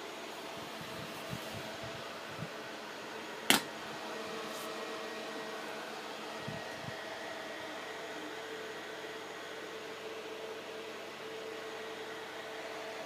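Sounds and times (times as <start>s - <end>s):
cooling fan drone: 0.0s - 13.0s.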